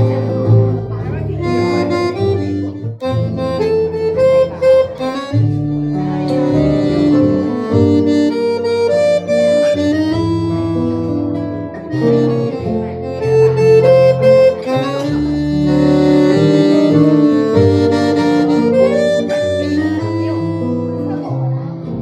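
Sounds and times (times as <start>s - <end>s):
live jazz band playing: 0.0s - 21.3s
bass line: 0.0s - 22.0s.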